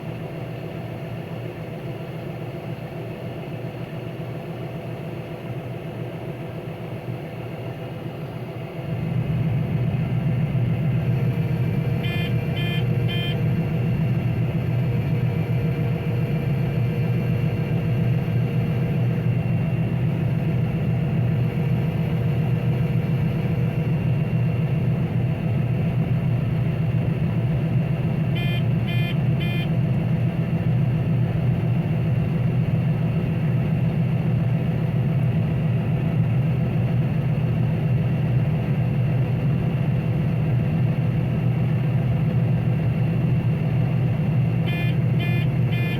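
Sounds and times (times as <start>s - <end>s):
combine harvester droning: 0.0s - 45.9s.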